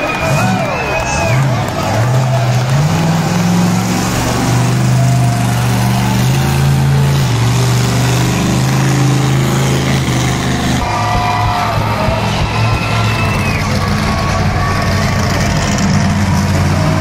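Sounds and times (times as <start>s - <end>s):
monster truck engine running: 0.0s - 17.0s.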